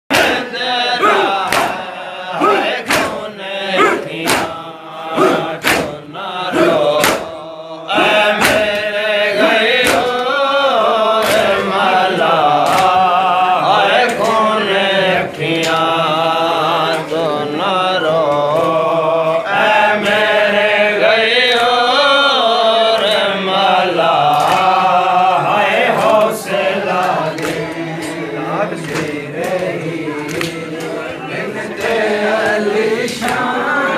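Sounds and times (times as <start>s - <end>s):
men chanting a lament: 0.1s - 33.9s.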